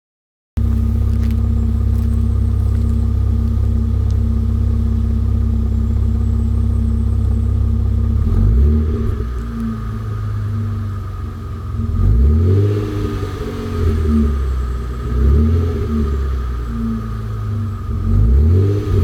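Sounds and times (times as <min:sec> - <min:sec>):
car engine idling: 0:00.6 - 0:19.0.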